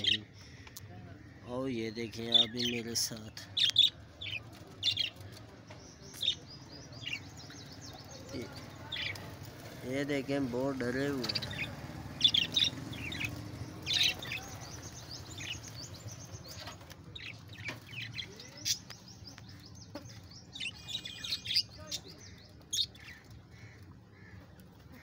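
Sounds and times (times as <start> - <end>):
budgerigars chirping: 0.0 - 5.2, 6.1 - 9.4, 10.6 - 25.0.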